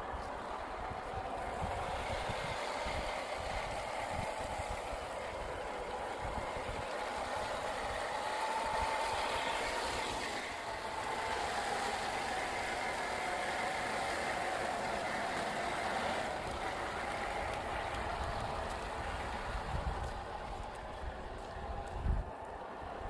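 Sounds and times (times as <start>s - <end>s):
toy car electric motor whining: 0.0s - 22.3s.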